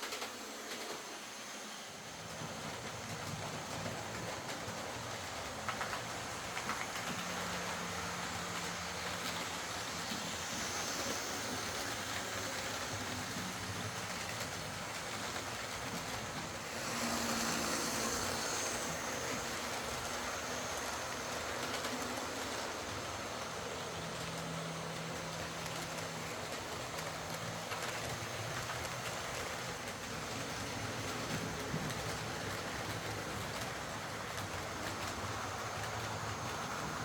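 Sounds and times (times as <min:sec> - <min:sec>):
model train motor humming: 0:00.0 - 0:37.0
wheels rattling on rail: 0:00.0 - 0:37.0.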